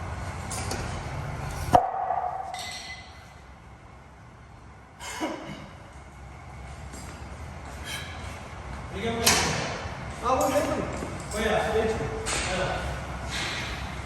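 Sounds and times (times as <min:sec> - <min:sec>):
low rumbling background: 0:02.4 - 0:14.0.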